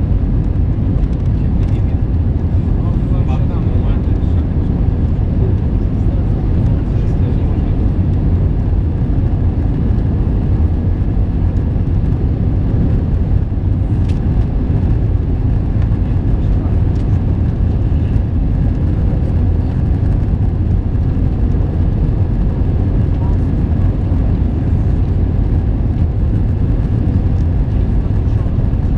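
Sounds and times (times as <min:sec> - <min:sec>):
aircraft cabin engine rumble: 0:00.0 - 0:28.9.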